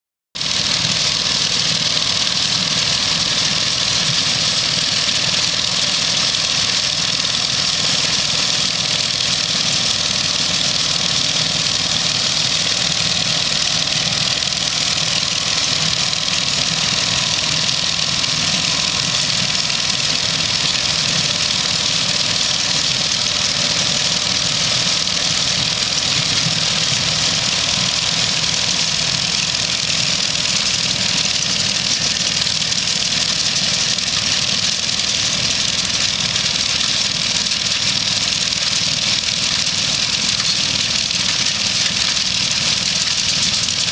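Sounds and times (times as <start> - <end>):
baler engine and machinery: 0.4 - 43.9.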